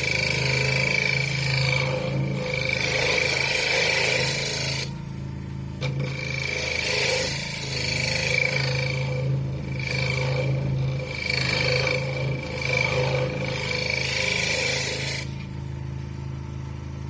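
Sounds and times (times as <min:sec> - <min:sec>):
turning tool scraping wood: 0:00.0 - 0:05.0, 0:05.8 - 0:15.6
lathe motor humming: 0:00.0 - 0:16.1.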